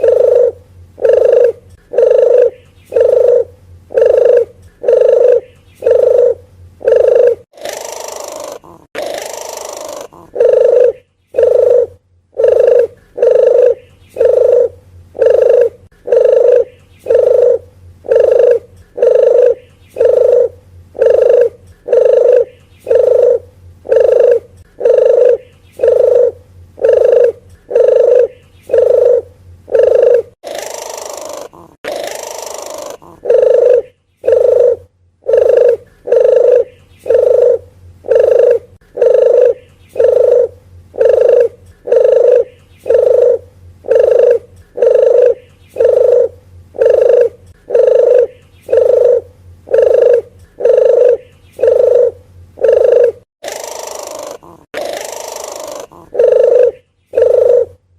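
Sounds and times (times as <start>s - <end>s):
dove cooing: 0.0s - 57.8s
harsh rasping bird calls: 0.0s - 57.8s.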